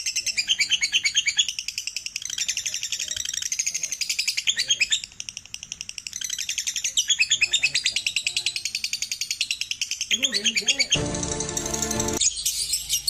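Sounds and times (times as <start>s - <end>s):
lovebird chattering chirps: 0.0s - 11.6s.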